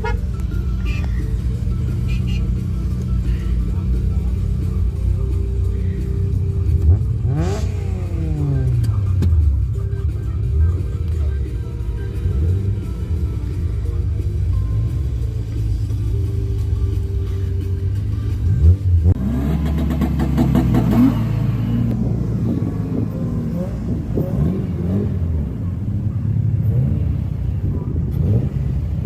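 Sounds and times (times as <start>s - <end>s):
car engines rumbling and revving: 0.0s - 29.0s.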